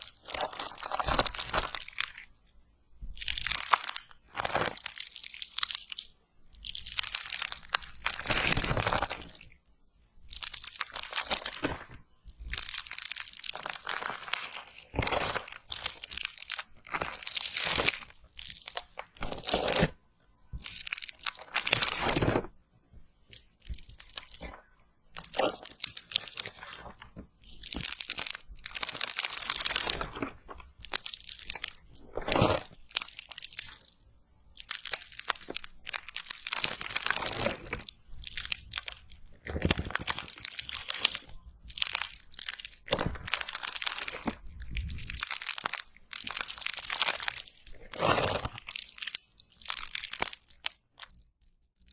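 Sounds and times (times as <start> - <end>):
slime being squeezed: 0.0 - 2.3, 10.3 - 22.5, 23.2 - 51.9.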